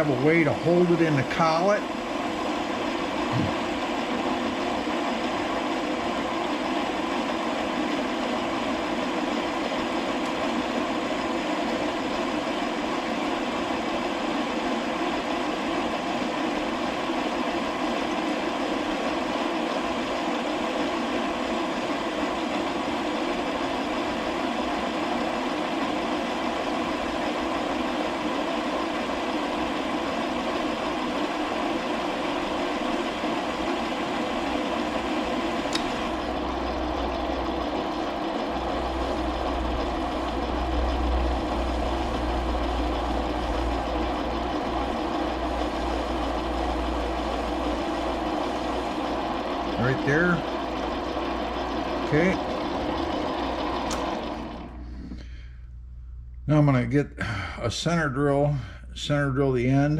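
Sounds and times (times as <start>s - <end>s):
metal lathe running: 0.0s - 55.0s.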